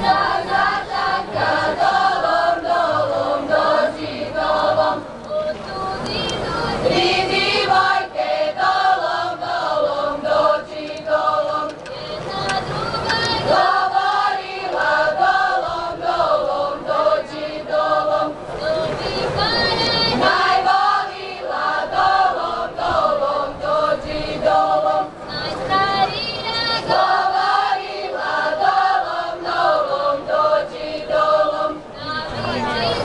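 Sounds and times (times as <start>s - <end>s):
women singing in chorus: 0.0s - 33.0s.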